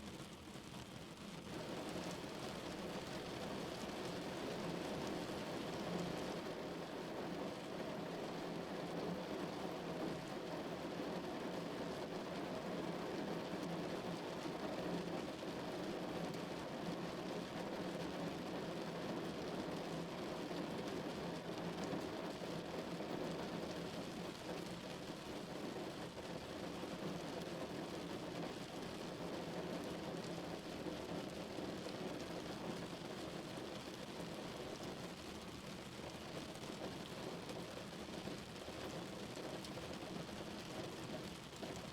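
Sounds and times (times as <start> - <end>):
rain drumming on a car roof: 0.0 - 41.9.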